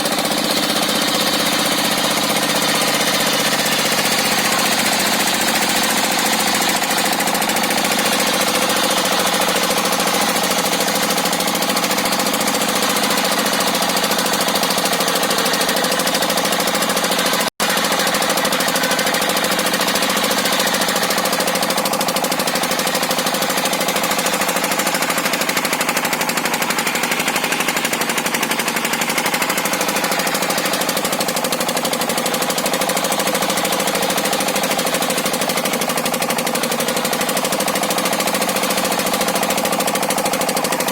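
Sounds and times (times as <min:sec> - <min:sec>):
circular saw cutting log: 0:00.0 - 0:40.9.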